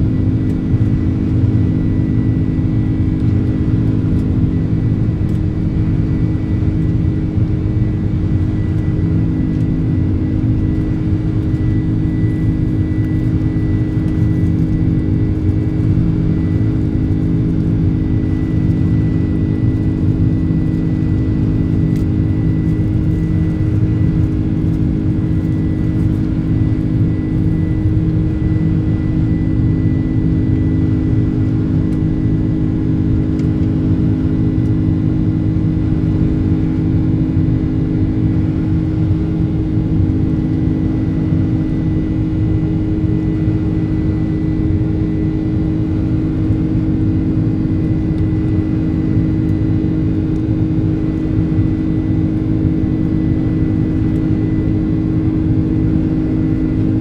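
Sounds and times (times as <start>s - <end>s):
high engine whine: 0.0s - 57.0s
jet engine drone in cabin: 0.0s - 57.0s.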